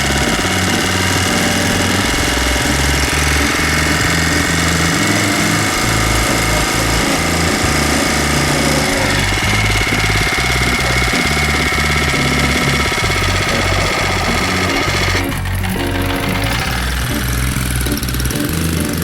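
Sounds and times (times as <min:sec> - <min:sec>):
motorized bicycle engine running: 0:00.0 - 0:19.0.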